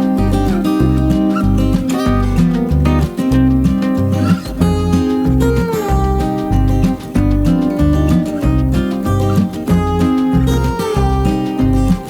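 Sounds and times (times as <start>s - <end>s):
bass line: 0.0s - 12.0s
guitar: 0.0s - 12.0s.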